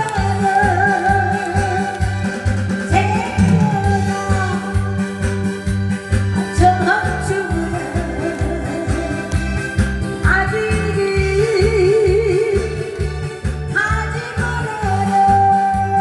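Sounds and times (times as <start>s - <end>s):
woman singing into microphone: 0.0s - 5.5s, 6.4s - 16.0s
backing track with steady beat: 0.0s - 16.0s.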